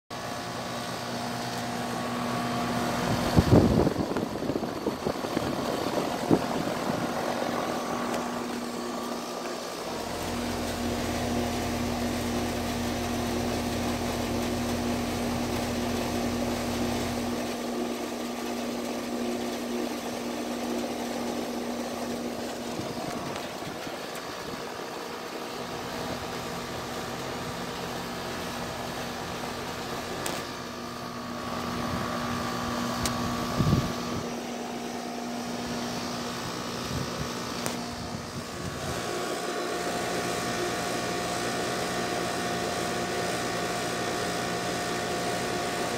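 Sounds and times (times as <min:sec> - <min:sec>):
air conditioner compressor hum: 0:00.1 - 0:45.9
condenser fan whirring: 0:00.1 - 0:45.9.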